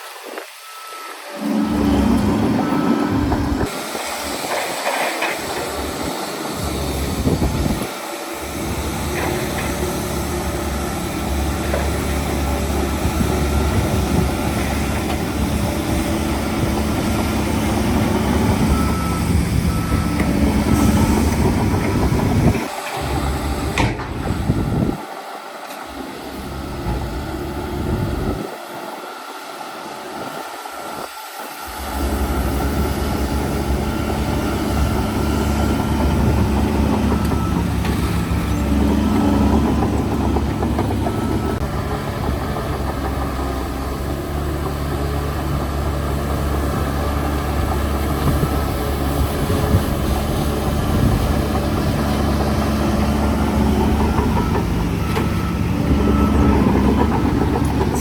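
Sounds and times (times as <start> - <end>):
diesel engine rumbling: 0.1 - 58.0.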